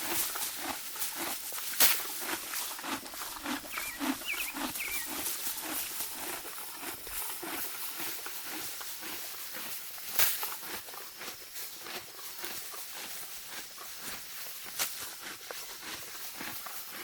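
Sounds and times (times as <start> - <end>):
horse chewing: 0.0 - 17.0
horse tearing and crunching grass: 0.0 - 17.0.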